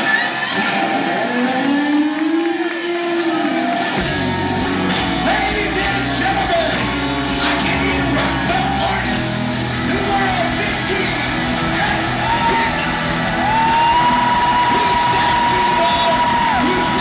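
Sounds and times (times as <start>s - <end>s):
live rock band with singing: 0.1s - 17.0s.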